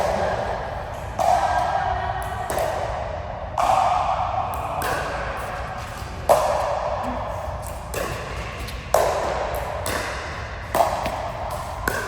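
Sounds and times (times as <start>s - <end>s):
racquet hitting ball in hall: 0.0s - 12.0s.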